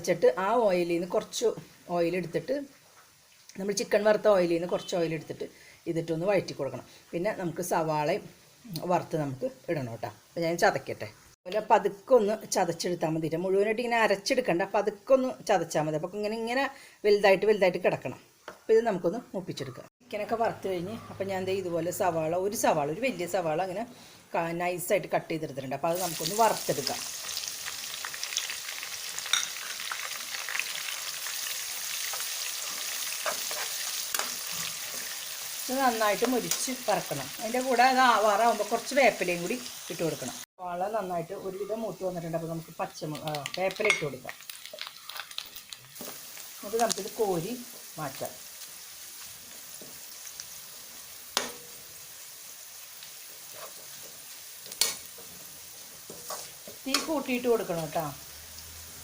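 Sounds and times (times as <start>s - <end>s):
onion sizzling in frying oil: 0.0s - 16.6s, 17.3s - 59.0s.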